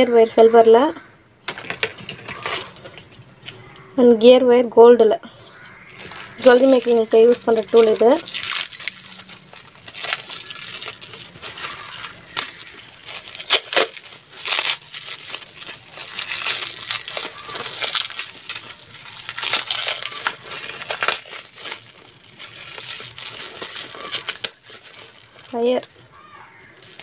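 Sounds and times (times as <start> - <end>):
small craft items clinking: 1.4 - 3.6, 5.6 - 27.0.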